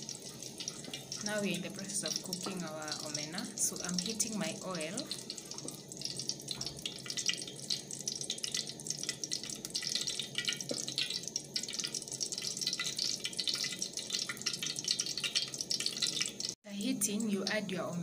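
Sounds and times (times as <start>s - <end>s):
oil sizzling in a pot: 0.0s - 18.0s.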